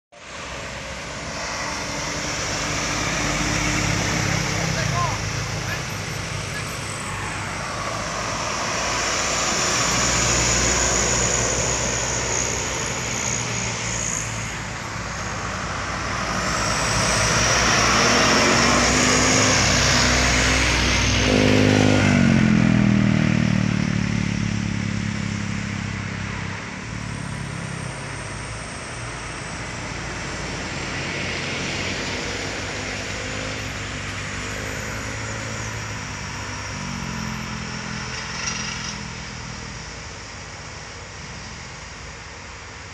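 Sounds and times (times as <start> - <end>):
diesel trucks at full throttle: 0.1 - 42.9
tyre and road noise: 0.1 - 42.9.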